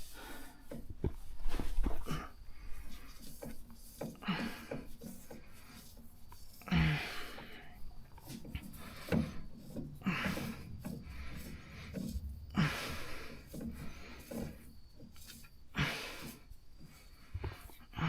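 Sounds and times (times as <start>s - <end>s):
rustling and knocking handling noises: 0.0s - 18.0s.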